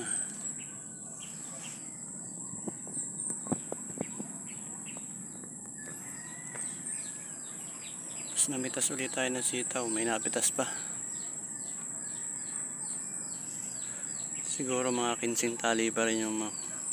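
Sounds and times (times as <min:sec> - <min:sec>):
faint bird calls: 0:00.0 - 0:16.9
insect hum: 0:00.0 - 0:16.9.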